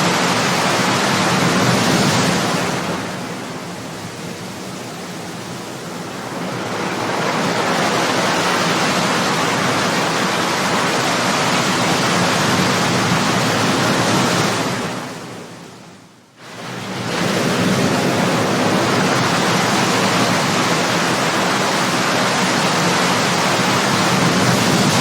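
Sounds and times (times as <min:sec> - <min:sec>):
ocean waves breaking on shore: 0:00.0 - 0:25.0.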